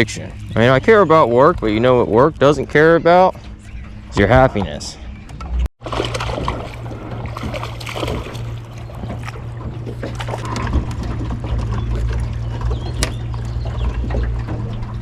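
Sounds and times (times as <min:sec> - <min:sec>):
outboard motor humming: 0:00.0 - 0:15.0
water noise: 0:00.0 - 0:15.0.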